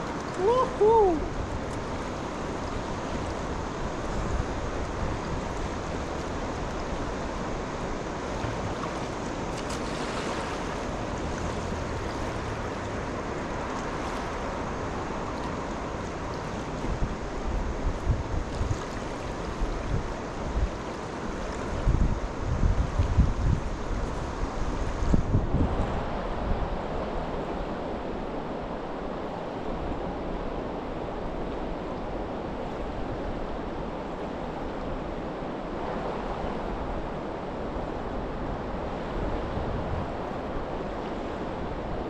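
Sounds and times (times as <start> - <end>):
wind buffeting microphone: 0.0 - 28.9, 29.7 - 42.0
flowing river water: 0.0 - 42.0.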